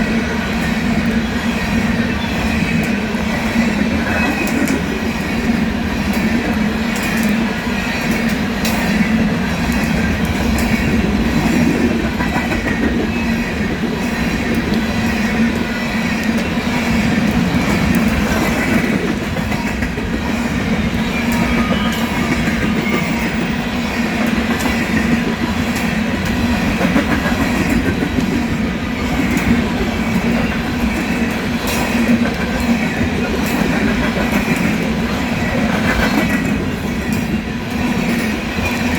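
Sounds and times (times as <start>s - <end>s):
steel wheels rumbling on rail: 0.0s - 38.9s.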